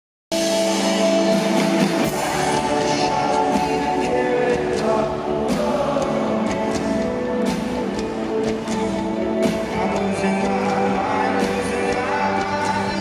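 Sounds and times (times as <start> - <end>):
live rock band playing: 0.3 - 13.0
person singing: 0.5 - 8.2, 9.2 - 13.0.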